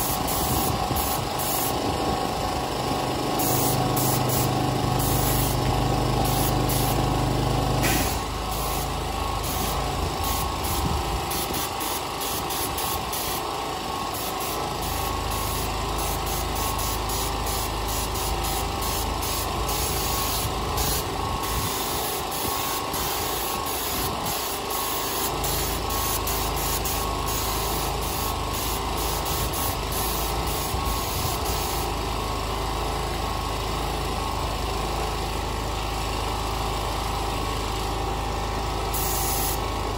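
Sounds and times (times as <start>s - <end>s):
pitched motor hum: 0.0s - 39.9s
portable generator running: 0.0s - 39.9s.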